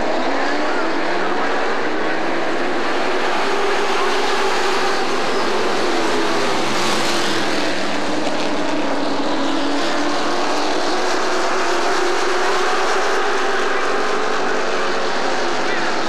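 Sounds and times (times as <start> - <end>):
race truck engines at speed: 0.0 - 16.0.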